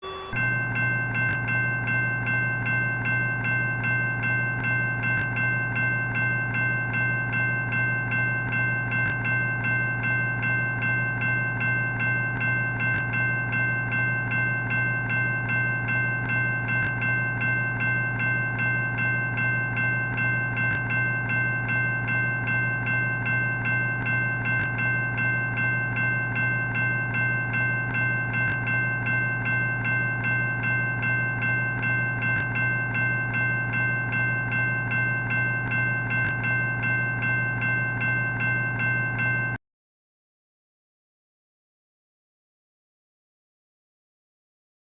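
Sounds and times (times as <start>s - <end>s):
railroad crossing bell ringing: 0.0s - 39.6s.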